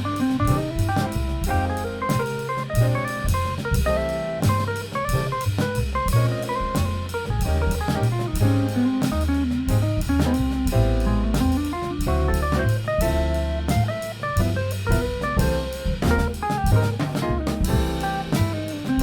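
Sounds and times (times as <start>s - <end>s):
bass line: 0.0s - 19.0s
drum kit with cymbals: 0.0s - 19.0s
quick jazz melody: 0.0s - 19.0s.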